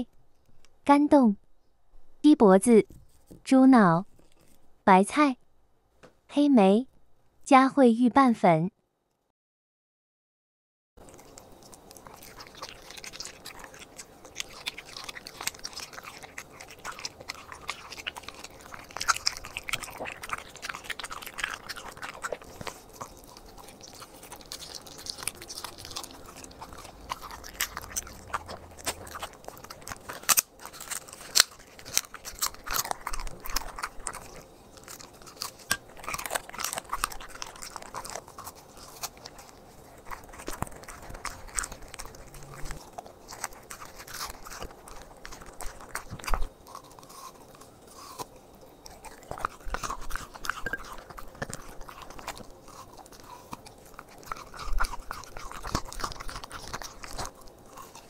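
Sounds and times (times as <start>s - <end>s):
dog chewing and crunching meat: 4.1s - 4.7s, 11.0s - 58.0s.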